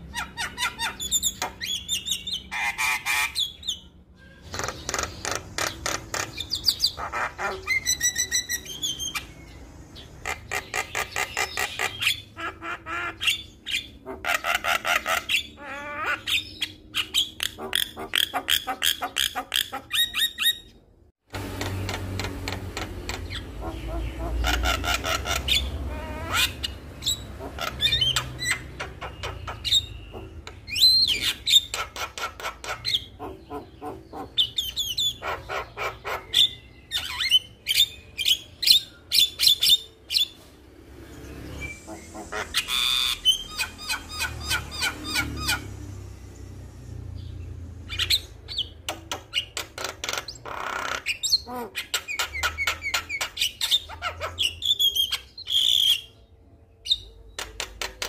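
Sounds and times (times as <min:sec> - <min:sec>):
harsh bird chattering calls: 0:00.0 - 0:20.8, 0:21.4 - 0:40.4, 0:41.4 - 0:45.8, 0:47.8 - 0:56.3.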